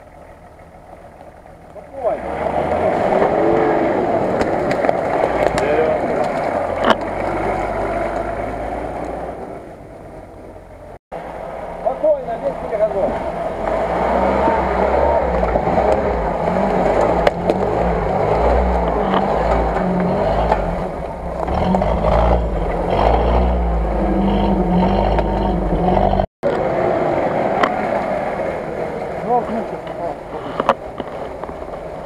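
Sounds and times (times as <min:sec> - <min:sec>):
engine labouring under load: 0:00.0 - 0:32.0.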